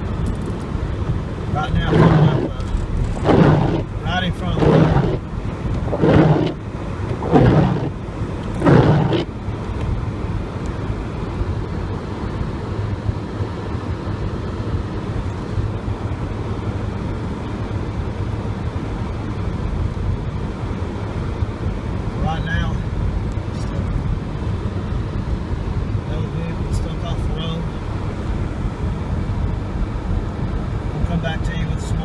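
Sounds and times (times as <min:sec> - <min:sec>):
car driving rumble from inside: 0:00.0 - 0:32.0
tyre noise on snowy road: 0:00.0 - 0:32.0.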